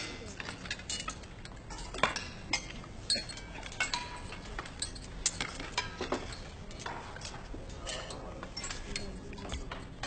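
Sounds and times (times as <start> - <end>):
cutlery clinking on plates: 0.0 - 10.0.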